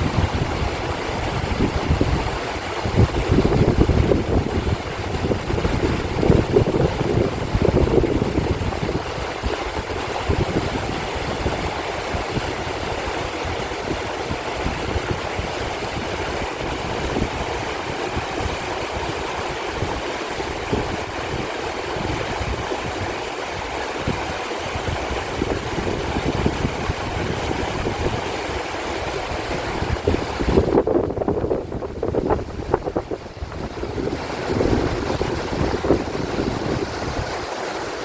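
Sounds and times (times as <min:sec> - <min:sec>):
stream water rushing: 0:00.0 - 0:38.0
wind buffeting microphone: 0:00.0 - 0:38.0.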